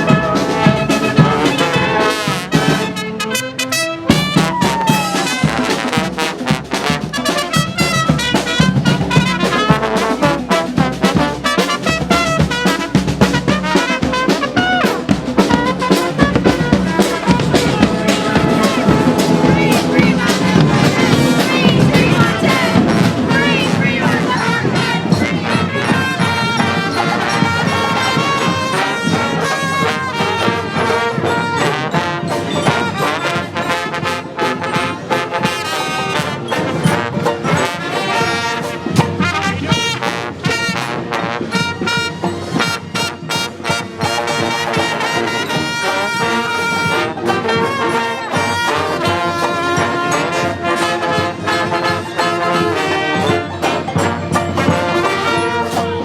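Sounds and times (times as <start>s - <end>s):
brass band playing: 0.0s - 56.0s
sharp percussion hits: 4.1s - 56.0s.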